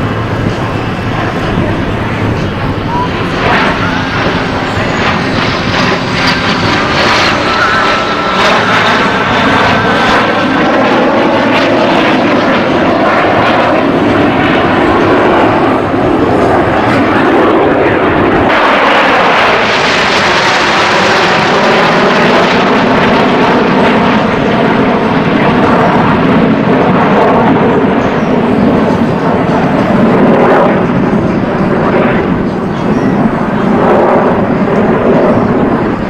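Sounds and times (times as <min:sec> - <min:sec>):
descending jet whine: 0:00.0 - 0:36.0
jet engines flying past: 0:00.0 - 0:36.0.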